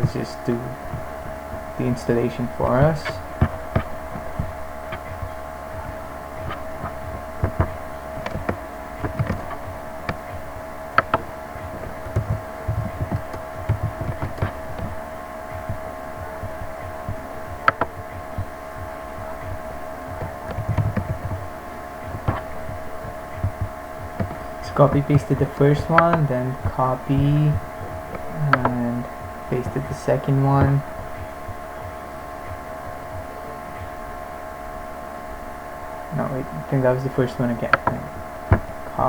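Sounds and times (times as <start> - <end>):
keyboard taps: 0.0 - 34.0, 37.3 - 39.0
steady tonal hum: 0.0 - 39.0.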